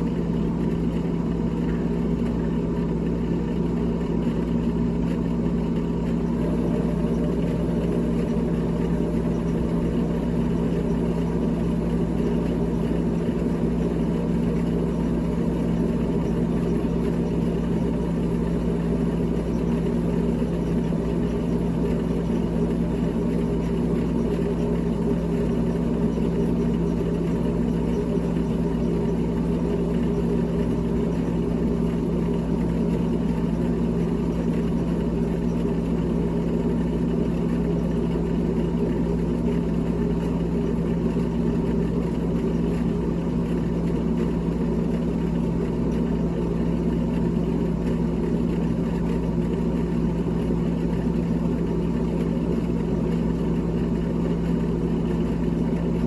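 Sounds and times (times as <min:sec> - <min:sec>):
refrigerator humming: 0:00.0 - 0:56.0.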